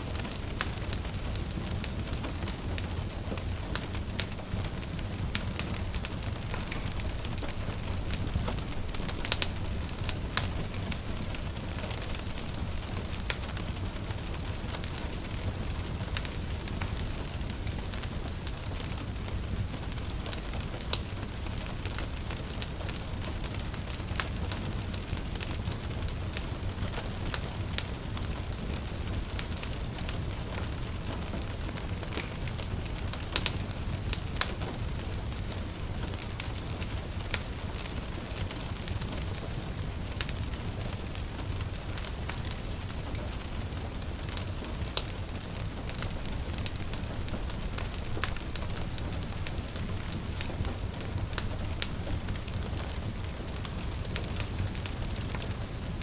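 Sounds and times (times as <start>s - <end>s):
gentle rain patter: 0.0s - 56.0s
wood fire crackling and popping: 0.0s - 56.0s.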